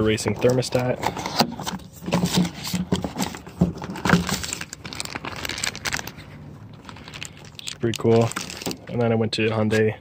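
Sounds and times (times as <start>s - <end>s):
packaging rustling: 0.2s - 9.1s.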